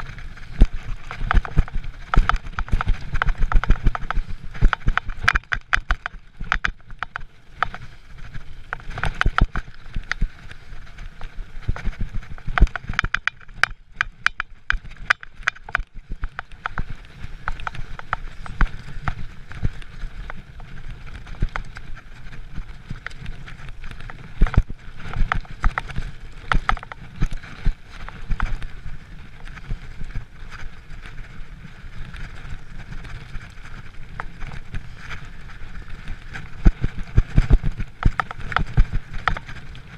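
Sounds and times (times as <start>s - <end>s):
bike rattles and knocks: 0.0s - 39.9s
bike tyres rumbling over dirt: 0.0s - 39.9s.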